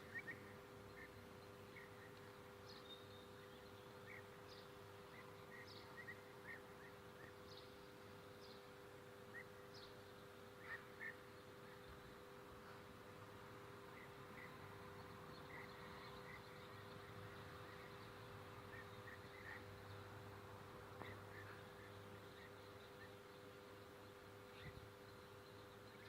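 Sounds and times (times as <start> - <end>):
faint birds chirping: 0.0 - 26.0
steady low hum: 0.0 - 26.0.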